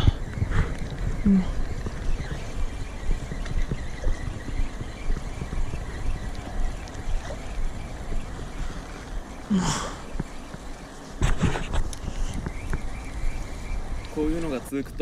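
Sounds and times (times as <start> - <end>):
water lapping: 0.0 - 15.0
wind noise on microphone: 0.0 - 15.0.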